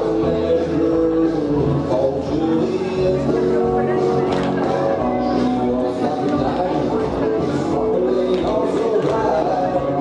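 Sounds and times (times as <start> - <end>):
country dance music with singing: 0.0 - 10.0.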